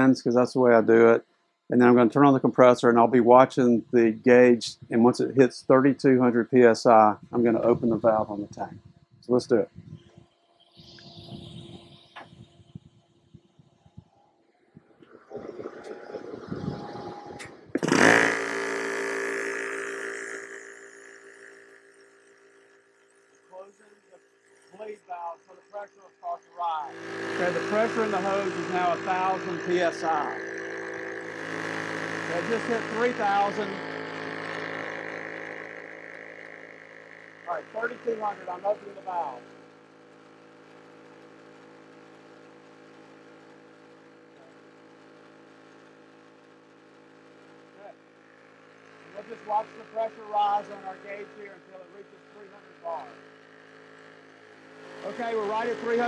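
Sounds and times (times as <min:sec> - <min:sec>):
air compressor motor running: 0:01.8 - 0:56.0.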